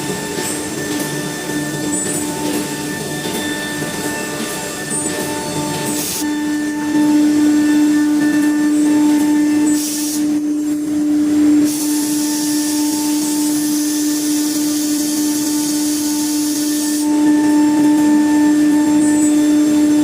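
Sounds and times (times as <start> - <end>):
bit cutting plywood hiss: 0.0 - 10.7, 11.3 - 20.0
router spindle high whine: 0.0 - 20.0.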